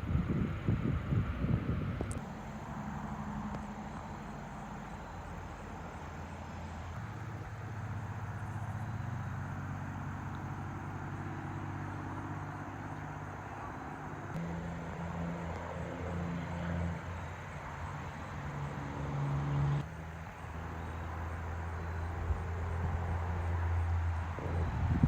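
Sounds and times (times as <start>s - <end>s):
large engine humming: 0.0s - 25.0s.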